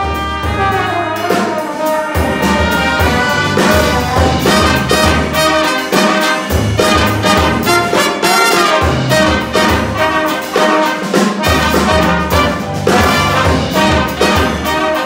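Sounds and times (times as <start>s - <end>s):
trombone low notes: 0.0s - 15.0s
trumpets playing: 0.0s - 15.0s.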